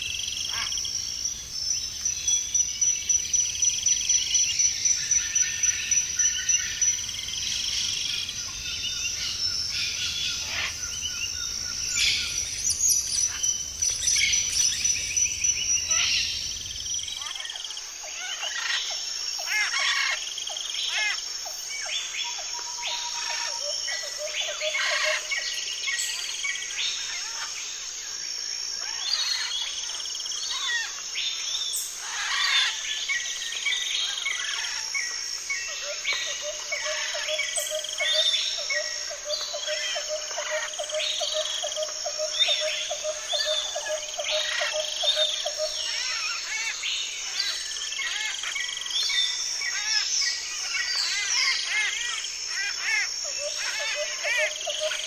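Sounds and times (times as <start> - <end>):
birds chirping and trilling: 0.0 - 55.0
high insect drone: 0.0 - 55.0.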